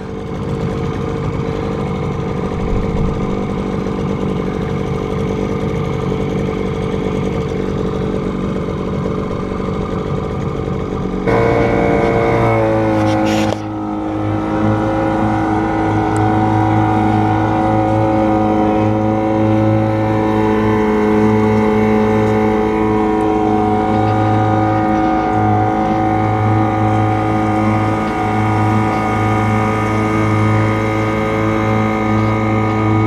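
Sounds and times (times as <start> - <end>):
vehicle engine running under load: 0.0 - 33.0.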